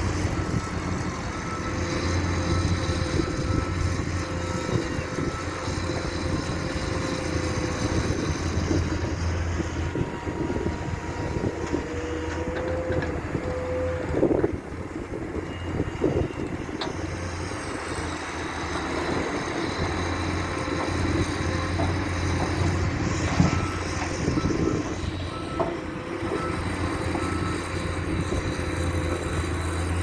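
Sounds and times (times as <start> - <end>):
diesel construction machinery: 0.0 - 30.0.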